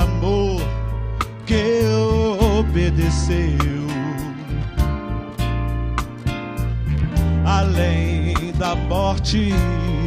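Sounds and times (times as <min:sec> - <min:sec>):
acoustic guitar: 0:00.0 - 0:10.0
bass: 0:00.0 - 0:10.0
gospel band playing: 0:00.0 - 0:10.0.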